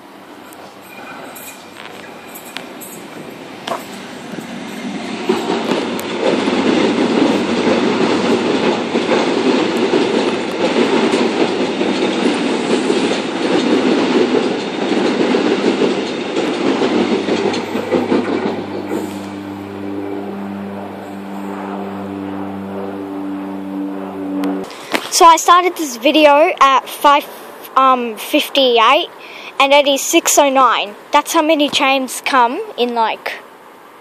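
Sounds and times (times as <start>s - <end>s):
electric train passing: 0.0s - 31.1s.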